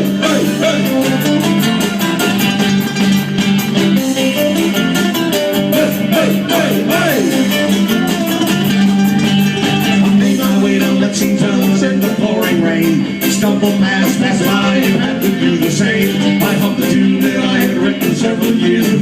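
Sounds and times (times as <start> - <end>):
live band guitar-led music: 0.0 - 19.0.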